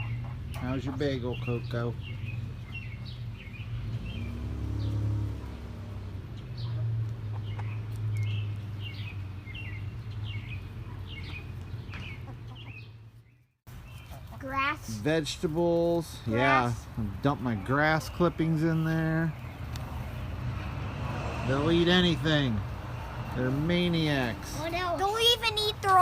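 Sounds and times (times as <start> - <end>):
chickens chirping and clucking: 0.0 - 26.0.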